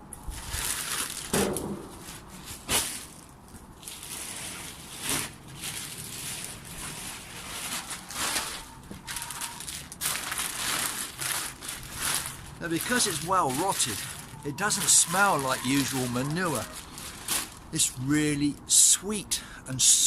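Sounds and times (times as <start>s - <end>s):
manure crunching and rustling: 0.2s - 18.1s.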